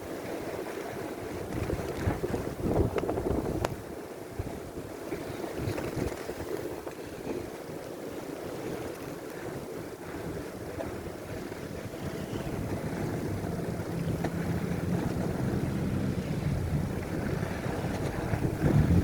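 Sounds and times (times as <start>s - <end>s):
wind buffeting microphone: 0.2s - 19.0s.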